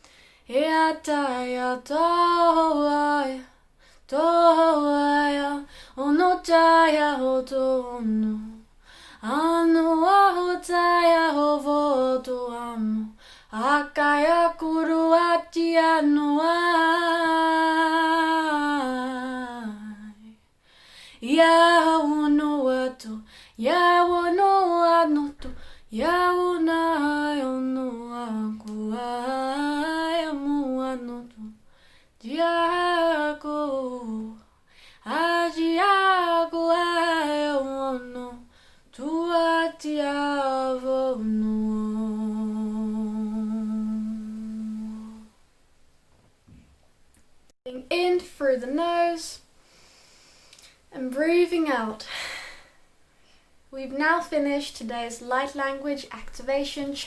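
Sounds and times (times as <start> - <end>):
woman singing wordless vocables: 0.4 - 20.4, 21.2 - 31.6, 32.2 - 45.4, 47.7 - 49.5, 50.6 - 52.7, 53.7 - 57.0.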